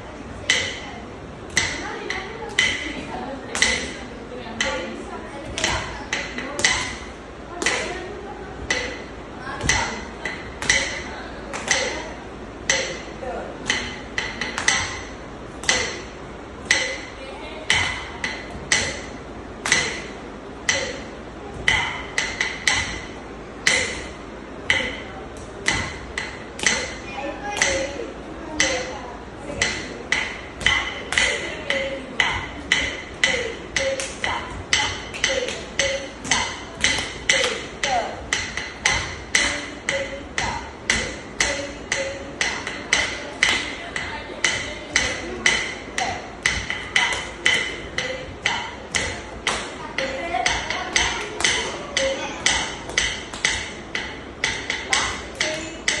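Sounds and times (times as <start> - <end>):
wooden stick striking wooden block: 0.4 - 0.9, 1.5 - 3.0, 3.6 - 8.0, 8.6 - 56.0.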